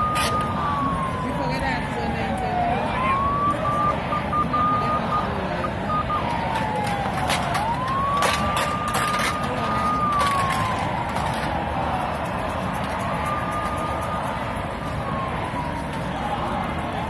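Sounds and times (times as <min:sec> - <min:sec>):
emergency siren wailing: 0:00.0 - 0:17.0
marching street crowd: 0:00.0 - 0:17.0.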